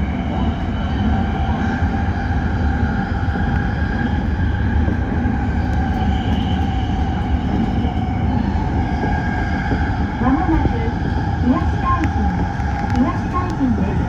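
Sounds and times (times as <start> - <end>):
faint steady tones: 0.0 - 14.0
train wheels rumbling on rail: 0.0 - 14.0.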